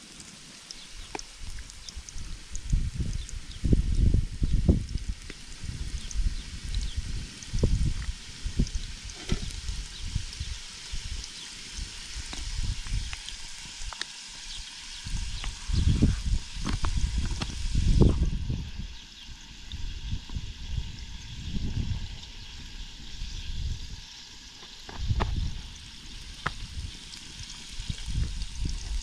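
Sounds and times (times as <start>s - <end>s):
potatoes sizzling in oil: 0.0s - 29.0s.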